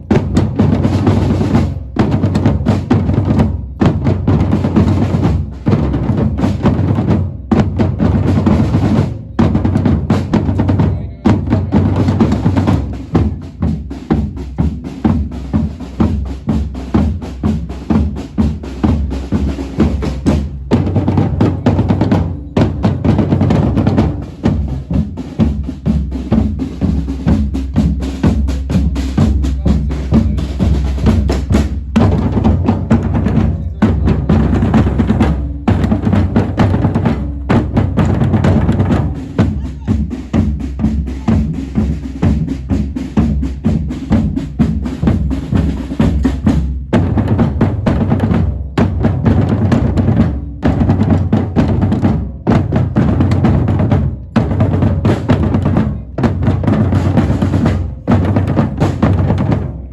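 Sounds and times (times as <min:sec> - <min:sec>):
bass drum beating: 0:00.0 - 0:59.9
snare drum rolls: 0:00.0 - 0:59.9.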